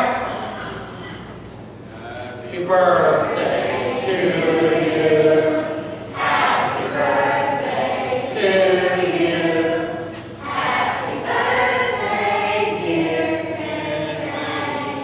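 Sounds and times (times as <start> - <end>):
group singing a hymn: 0.0 - 0.6, 2.0 - 15.0.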